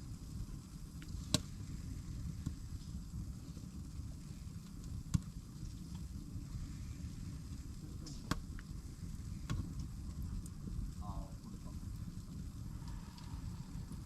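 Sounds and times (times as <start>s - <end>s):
fire popping: 0.0s - 14.0s
low steady rumble: 0.0s - 14.0s
wood fire crackling: 0.0s - 14.0s.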